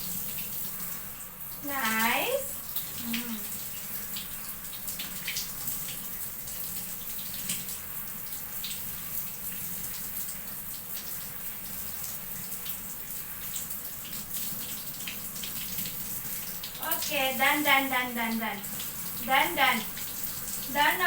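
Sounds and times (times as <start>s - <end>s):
shower water running: 0.0s - 21.0s.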